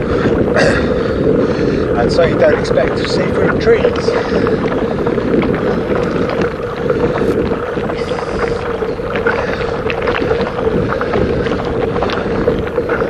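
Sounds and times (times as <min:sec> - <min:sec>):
bicycle tyres rumbling on cobbles: 0:00.0 - 0:13.0
wind on microphone: 0:00.0 - 0:13.0.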